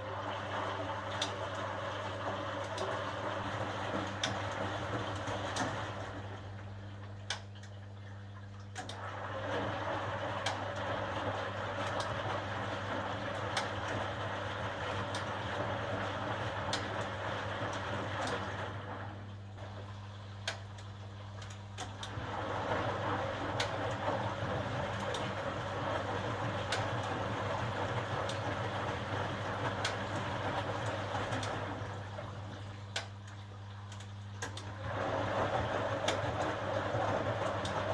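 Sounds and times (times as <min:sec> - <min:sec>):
laundry sloshing in drum: 0:00.0 - 0:07.4, 0:08.1 - 0:20.2, 0:20.9 - 0:37.9
washing machine motor hum: 0:00.0 - 0:37.9.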